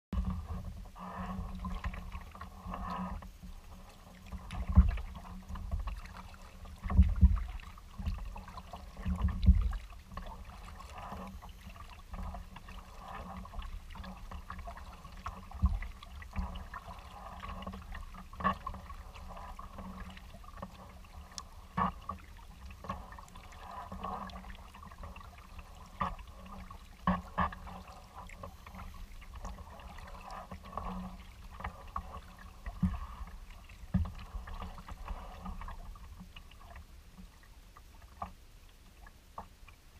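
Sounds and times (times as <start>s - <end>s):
water lapping against hull: 0.1s - 39.9s
paddle strokes splashing: 0.2s - 39.9s.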